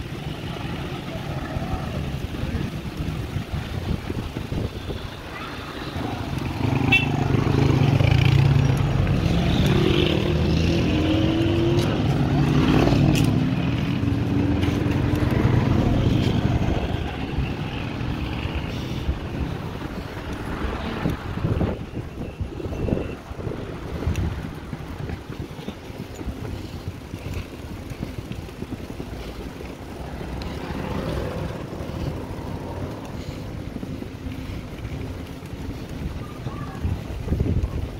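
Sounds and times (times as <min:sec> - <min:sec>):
vehicle engine rumbling: 0:00.0 - 0:37.9.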